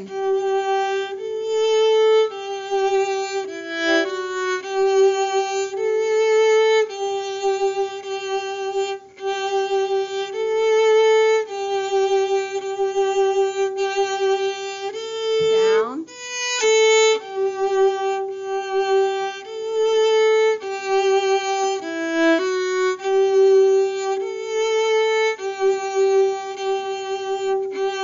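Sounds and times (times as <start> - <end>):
solo violin melody: 0.0 - 28.0.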